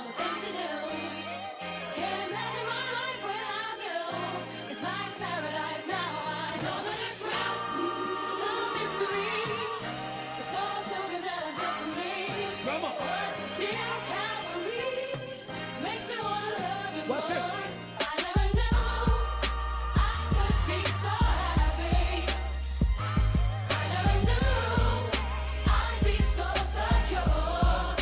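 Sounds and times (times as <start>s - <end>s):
gospel song with singing: 0.0s - 28.0s.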